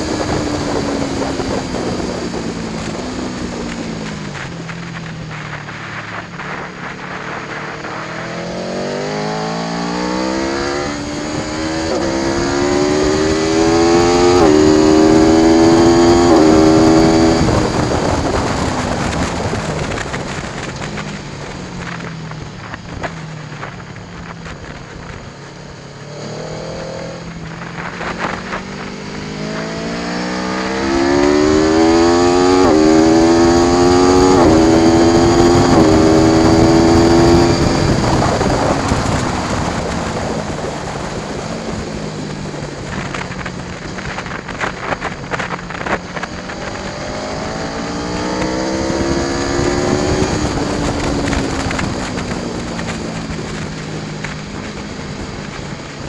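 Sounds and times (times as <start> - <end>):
motorcycle engine accelerating: 0.0 - 56.0
wind noise: 0.0 - 56.0.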